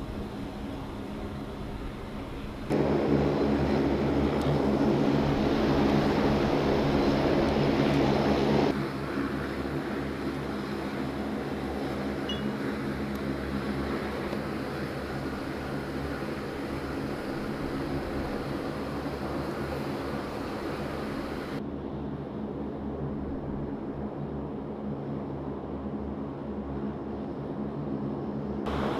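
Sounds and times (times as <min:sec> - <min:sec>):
aircraft engines droning: 0:00.0 - 0:28.9.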